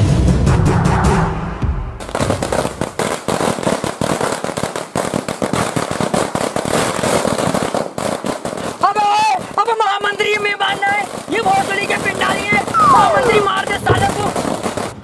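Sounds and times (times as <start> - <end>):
firecrackers cracking: 2.0 - 15.0.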